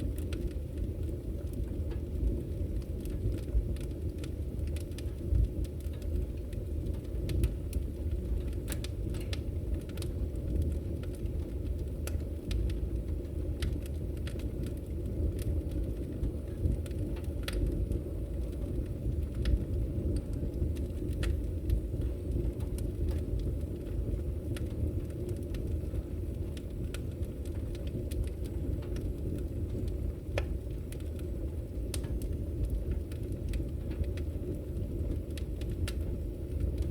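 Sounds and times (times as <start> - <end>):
fire crackling and popping: 0.0 - 36.9
fire flames rumbling: 0.0 - 36.9.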